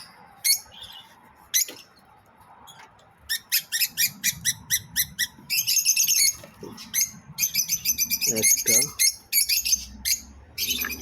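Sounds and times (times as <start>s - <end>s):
lovebirds chirping: 0.0s - 11.0s.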